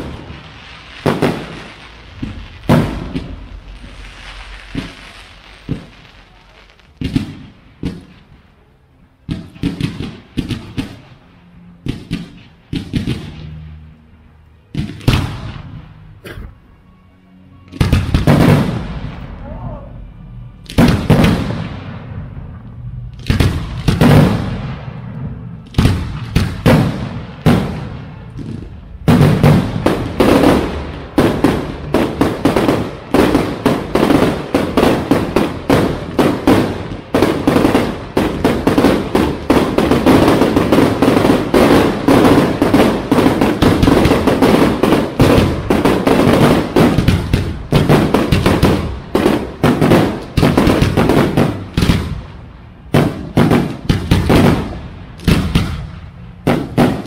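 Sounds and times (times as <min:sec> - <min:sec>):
fireworks bangs: 0:00.0 - 0:16.8, 0:17.6 - 0:57.0.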